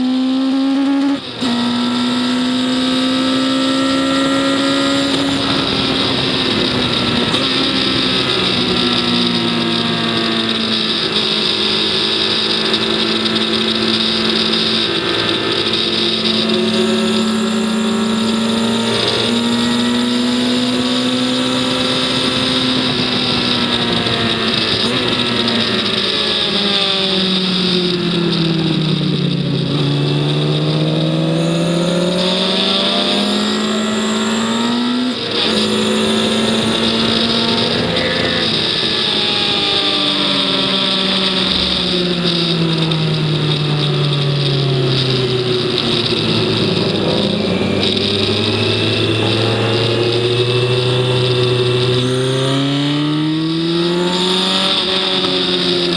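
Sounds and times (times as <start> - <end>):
racing engine at high revs: 0.0 - 55.9.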